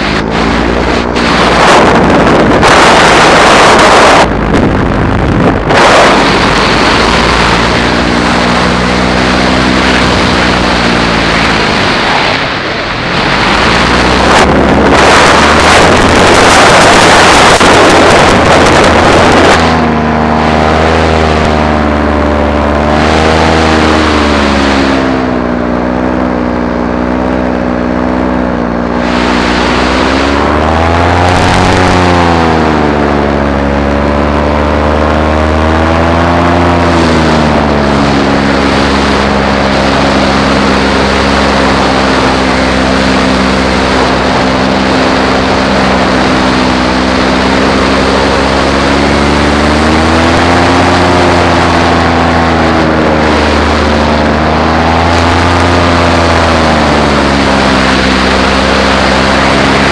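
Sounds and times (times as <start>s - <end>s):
paramotor engine and propeller: 0.0s - 59.9s
wind noise on microphone: 0.0s - 59.9s.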